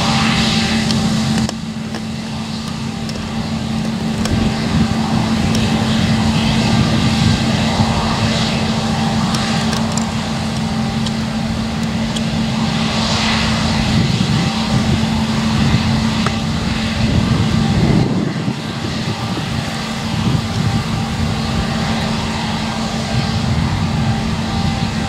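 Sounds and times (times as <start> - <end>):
combine harvester engine and threshing: 0.0 - 25.0.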